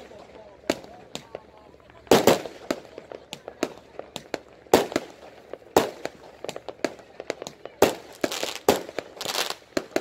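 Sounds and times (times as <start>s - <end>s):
firecrackers crackling: 0.0s - 10.0s
fireworks bangs and pops: 0.0s - 10.0s.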